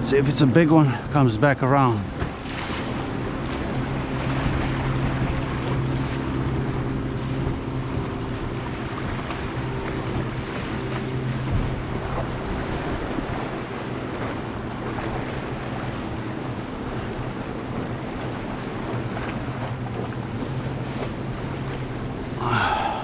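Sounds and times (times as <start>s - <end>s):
low engine hum: 0.0s - 23.0s
sea noise: 0.0s - 23.0s
wind buffeting microphone: 0.0s - 23.0s.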